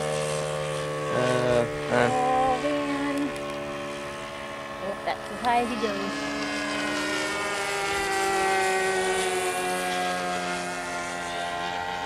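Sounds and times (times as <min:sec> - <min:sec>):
model airplane motor droning: 0:00.0 - 0:12.0.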